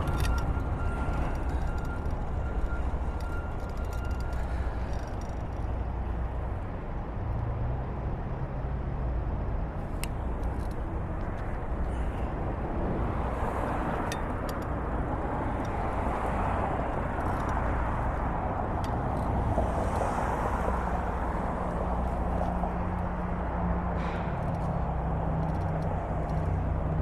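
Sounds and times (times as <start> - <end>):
road traffic: 0.0 - 27.0
vehicle engine humming: 0.0 - 27.0.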